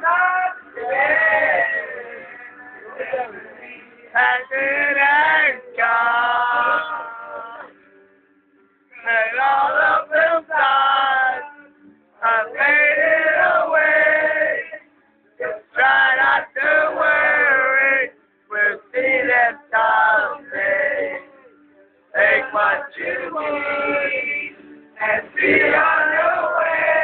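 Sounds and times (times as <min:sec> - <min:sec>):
young men singing together: 0:00.0 - 0:07.7, 0:09.0 - 0:11.6, 0:12.2 - 0:14.8, 0:15.4 - 0:21.3, 0:22.2 - 0:27.0.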